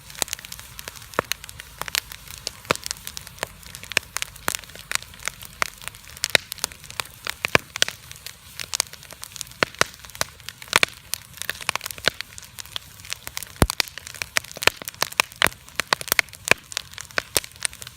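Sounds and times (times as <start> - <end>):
campfire crackling and popping: 0.0 - 17.9.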